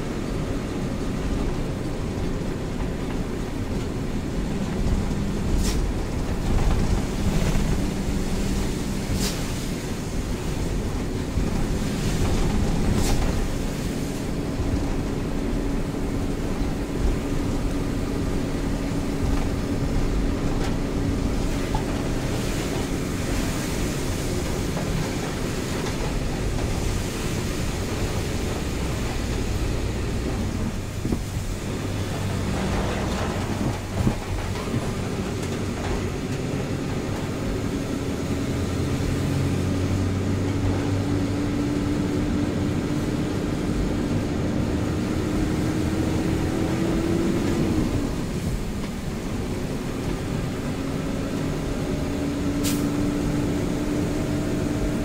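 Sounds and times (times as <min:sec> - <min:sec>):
diesel truck engine running: 0:00.0 - 0:55.0
rain and tyres on wet road: 0:00.0 - 0:55.0.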